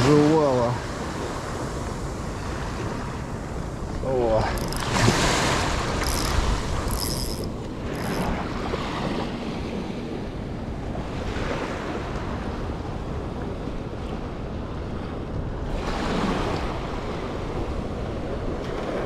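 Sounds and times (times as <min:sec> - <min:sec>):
small waves washing: 0:00.0 - 0:19.0.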